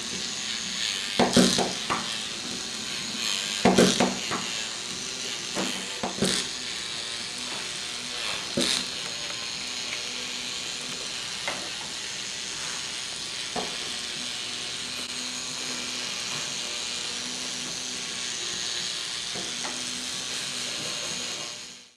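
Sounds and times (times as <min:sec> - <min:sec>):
small electric motor whirring: 0:00.0 - 0:21.9.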